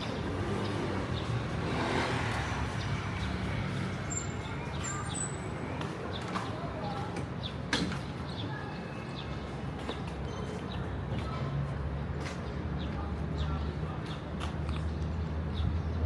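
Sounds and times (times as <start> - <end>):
traffic: 0.0 - 16.0.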